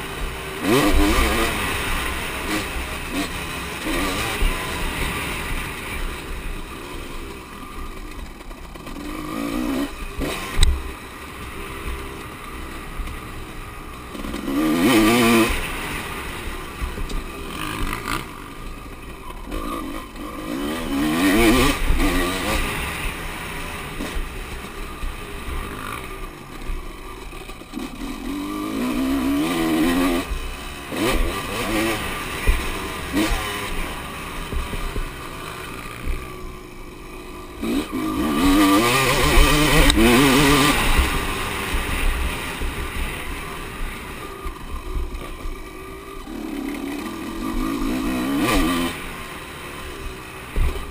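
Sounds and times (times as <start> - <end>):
motocross bikes revving and passing: 0.0 - 50.9.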